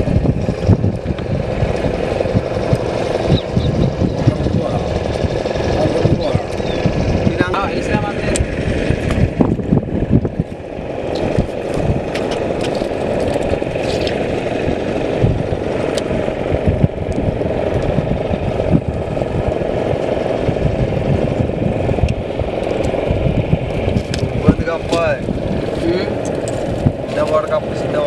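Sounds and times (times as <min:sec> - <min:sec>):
boat engine rumbling: 0:00.0 - 0:28.0.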